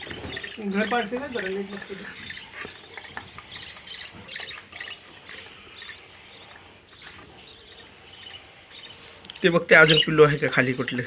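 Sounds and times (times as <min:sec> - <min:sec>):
budgies chirping: 0:00.0 - 0:11.0.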